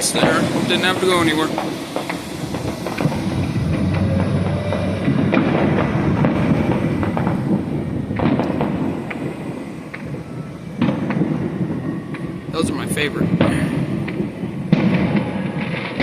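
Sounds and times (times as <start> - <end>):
fireworks booming and crackling: 0.0 - 16.0
sharp firework cracks: 0.0 - 16.0.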